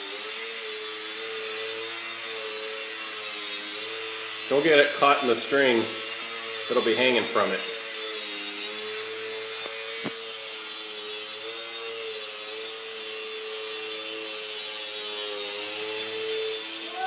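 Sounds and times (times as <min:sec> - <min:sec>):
model plane motor buzzing: 0:00.0 - 0:17.0.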